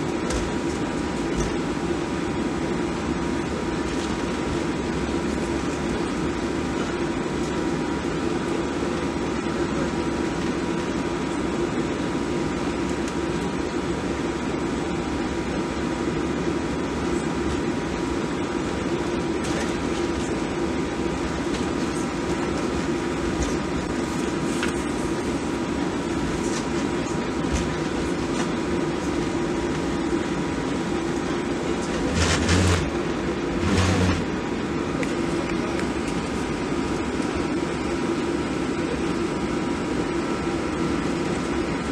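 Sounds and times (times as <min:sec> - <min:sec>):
airliner cabin hum: 0:00.0 - 0:41.9.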